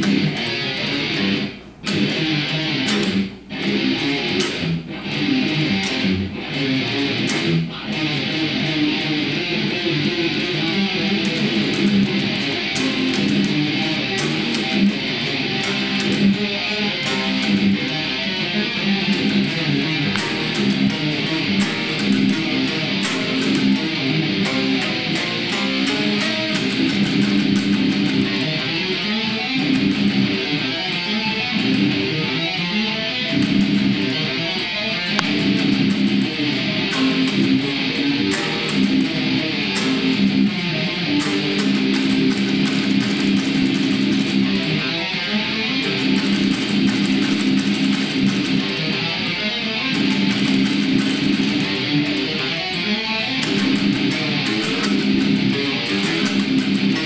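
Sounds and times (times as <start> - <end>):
heavy metal electric guitar riff: 0.0 - 57.0.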